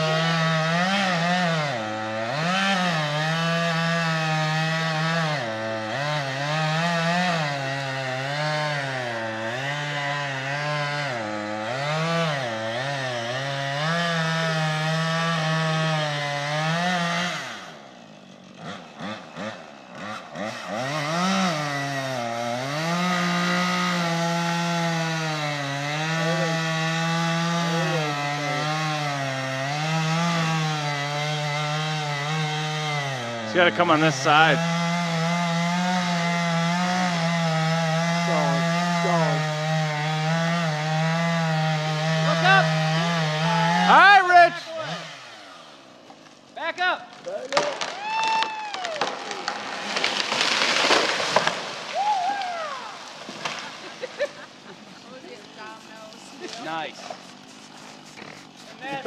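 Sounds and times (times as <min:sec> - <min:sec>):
chainsaw idling with throttle blips: 0:00.0 - 0:47.9, 0:52.8 - 0:59.0
chainsaw cutting wood: 0:00.0 - 0:59.0.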